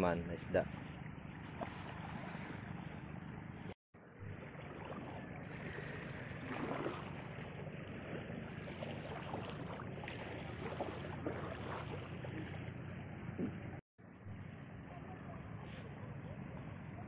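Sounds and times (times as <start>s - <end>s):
water sloshing and splashing: 0.5s - 14.4s.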